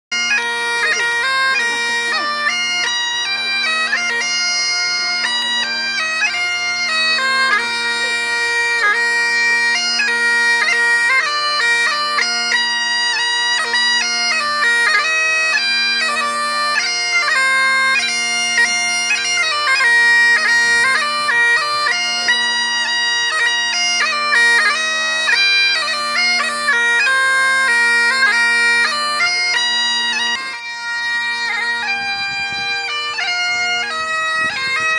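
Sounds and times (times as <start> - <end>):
bagpipe drones: 0.1 - 34.9
bagpipe tune: 0.1 - 34.9.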